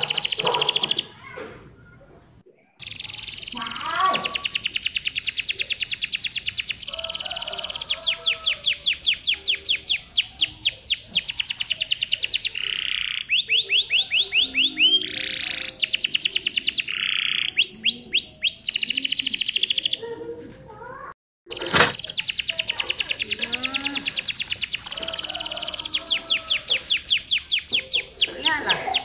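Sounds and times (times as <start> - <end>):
canary singing: 0.0 - 2.1, 2.8 - 20.3, 20.9 - 29.0.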